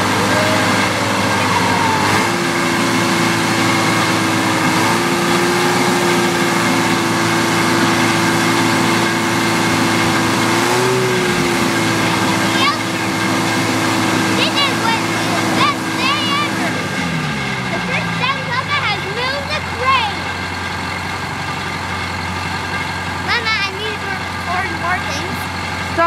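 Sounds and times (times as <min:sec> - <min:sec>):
two-stroke diesel engine running: 0:00.0 - 0:26.0.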